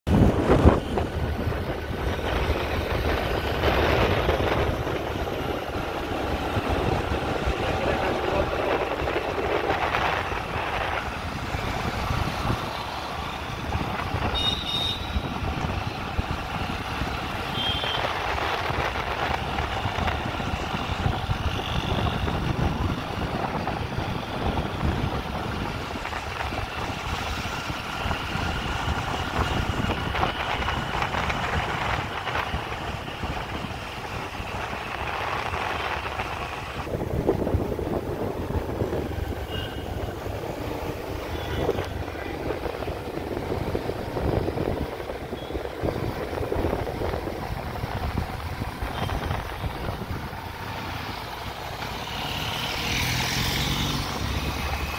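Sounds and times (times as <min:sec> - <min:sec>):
road noise from moving vehicle: 0:00.0 - 0:54.9.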